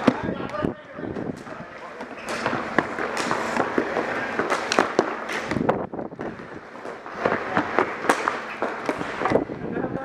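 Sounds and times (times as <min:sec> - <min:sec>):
hockey sticks and ball clacking: 0:00.0 - 0:10.0.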